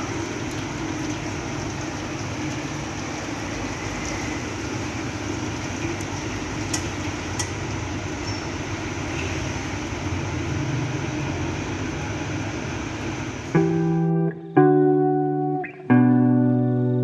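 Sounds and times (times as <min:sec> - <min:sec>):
mechanical hum: 0:00.0 - 0:14.2.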